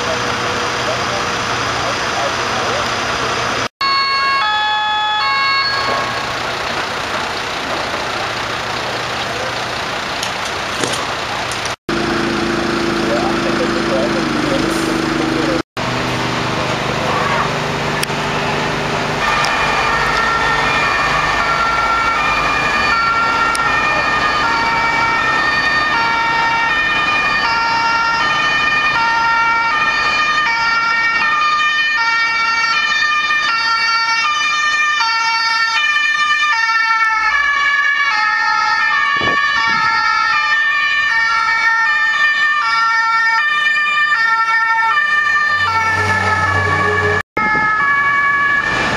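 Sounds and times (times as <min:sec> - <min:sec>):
vehicle engines: 0:00.0 - 0:03.7, 0:05.0 - 0:48.9
two-tone sirens: 0:00.0 - 0:10.4, 0:11.9 - 0:48.9.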